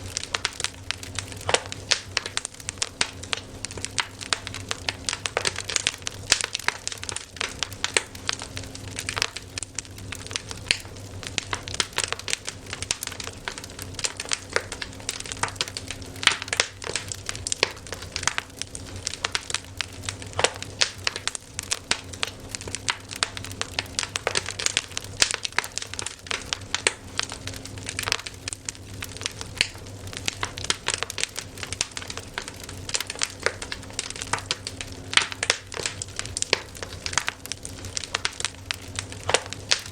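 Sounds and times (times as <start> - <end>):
steady low hum: 0.0 - 39.9
wood fire crackling: 0.0 - 39.9.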